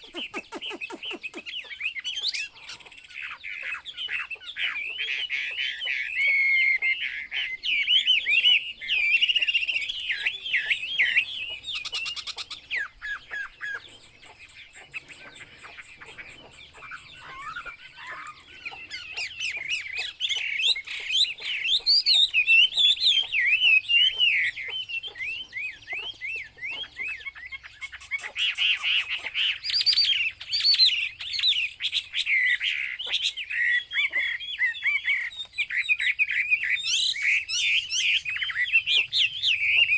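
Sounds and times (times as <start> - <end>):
bird singing whistled phrases: 3.7 - 13.8, 16.8 - 39.9.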